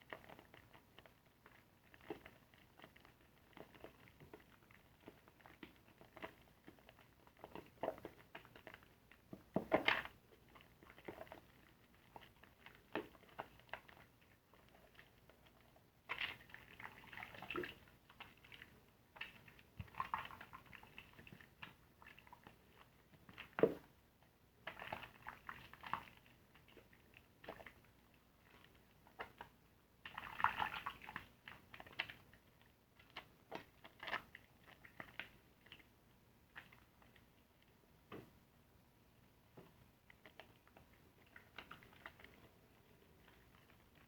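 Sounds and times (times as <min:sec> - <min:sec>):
wet sponge squishing foam: 0:00.0 - 0:38.4, 0:39.6 - 0:44.0.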